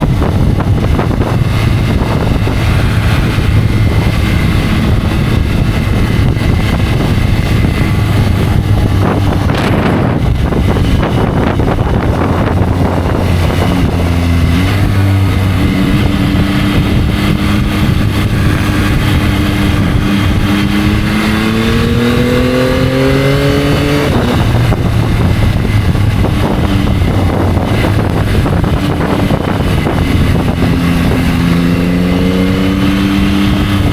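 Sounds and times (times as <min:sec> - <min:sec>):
motorcycle engine running: 0:00.0 - 0:33.9
steady rushing noise: 0:00.0 - 0:33.9.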